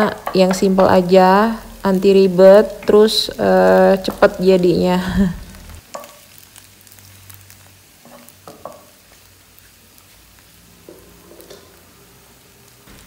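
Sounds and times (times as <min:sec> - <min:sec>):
eggs sizzling in oil: 0:00.0 - 0:13.0.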